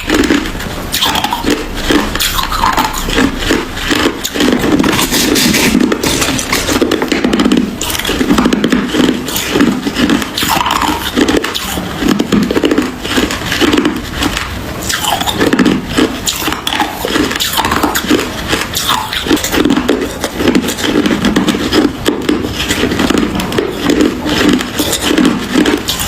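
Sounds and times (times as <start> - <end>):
person chewing ice: 0.0 - 26.0.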